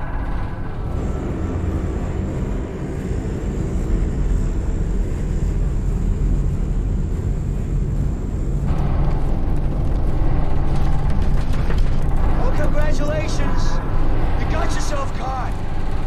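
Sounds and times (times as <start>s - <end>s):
airplane engine drone in cabin: 0.0s - 16.0s.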